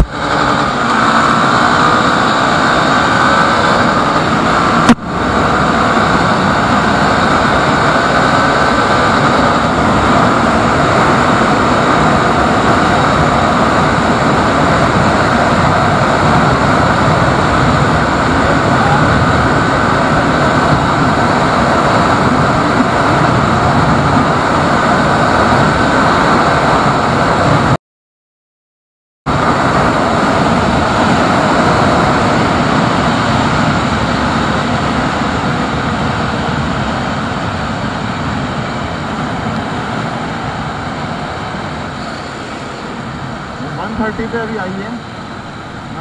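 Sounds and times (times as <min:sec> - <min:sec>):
motorcycle engine at speed: 0:00.0 - 0:27.8, 0:29.3 - 0:46.0
wind rush on microphone: 0:00.0 - 0:27.8, 0:29.3 - 0:46.0.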